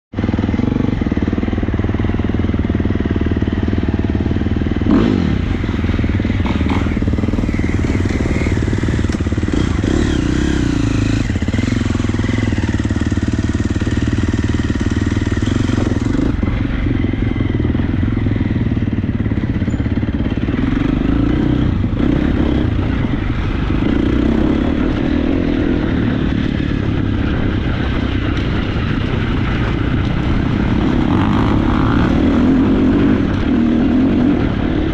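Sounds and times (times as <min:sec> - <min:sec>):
motocross bike engine revving: 0:03.0 - 0:34.9.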